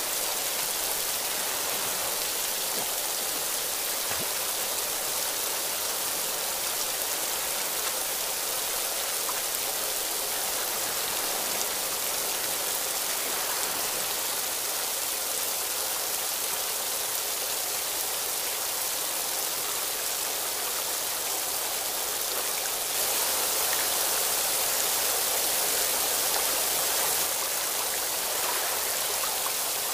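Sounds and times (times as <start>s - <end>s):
waterfall splashing into pool: 0.0s - 29.9s.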